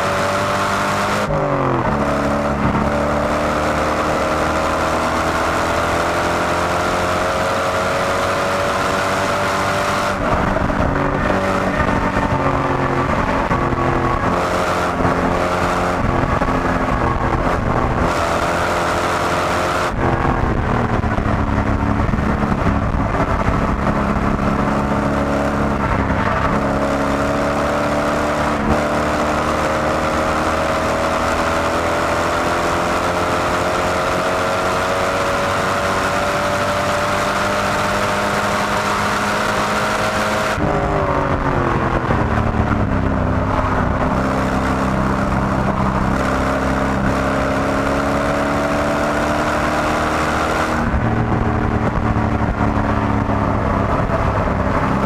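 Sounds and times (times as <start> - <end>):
car engine at speed from inside: 0.0 - 55.0.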